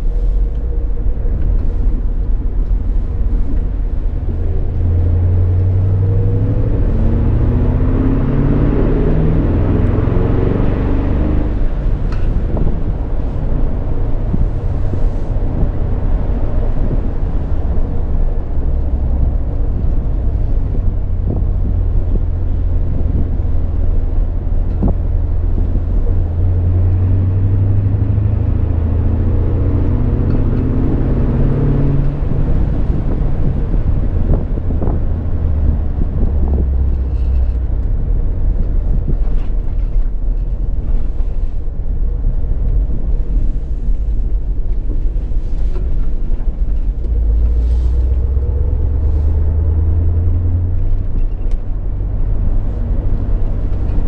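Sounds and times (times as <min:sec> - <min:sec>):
low road rumble: 0:00.0 - 0:54.0
car engine revving from inside: 0:02.9 - 0:39.6, 0:42.3 - 0:54.0.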